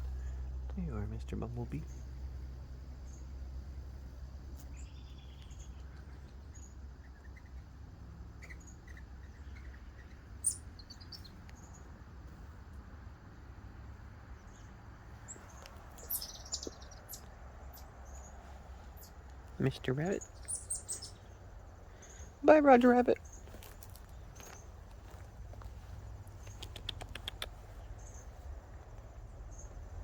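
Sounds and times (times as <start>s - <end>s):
small birds chirping: 0.0s - 30.0s
steady low rumble: 0.0s - 30.0s.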